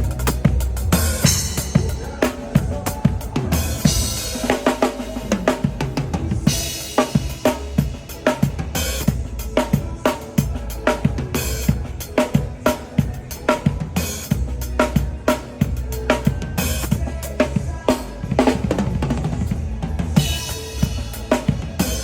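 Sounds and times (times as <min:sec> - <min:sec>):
drum kit funk groove: 0:00.0 - 0:22.0
steady low bass: 0:00.0 - 0:22.0.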